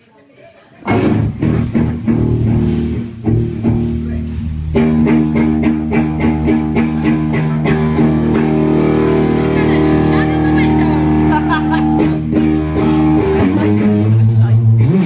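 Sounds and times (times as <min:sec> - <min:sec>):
bass guitar: 0:00.8 - 0:15.0
electric guitar: 0:00.8 - 0:15.0.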